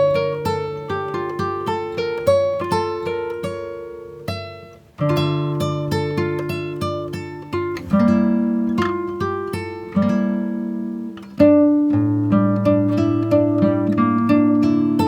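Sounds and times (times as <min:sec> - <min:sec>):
plucked acoustic guitar music: 0:00.0 - 0:15.0.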